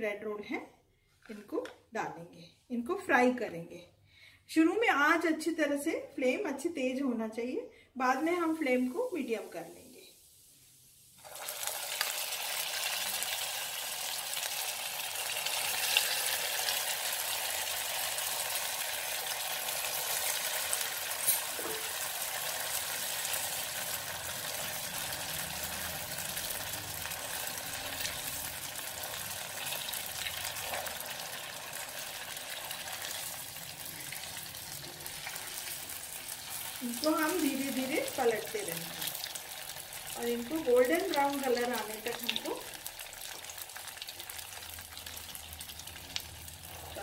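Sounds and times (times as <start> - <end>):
deep-frying sizzle: 8.2 - 47.0.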